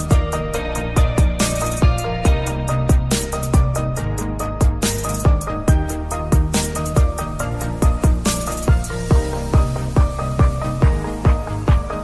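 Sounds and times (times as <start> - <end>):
deep electronic beat thumps: 0.0 - 12.0.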